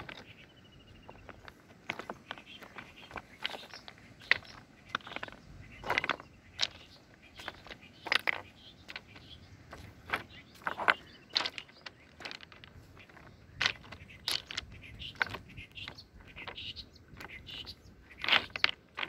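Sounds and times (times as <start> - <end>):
footsteps on river stones: 0.0 - 19.0.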